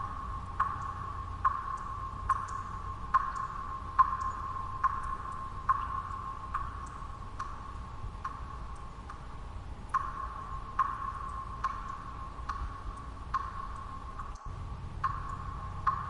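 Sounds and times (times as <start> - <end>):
water drops plinking: 0.0 - 9.2, 9.9 - 16.0
low white-noise hiss: 0.0 - 16.0.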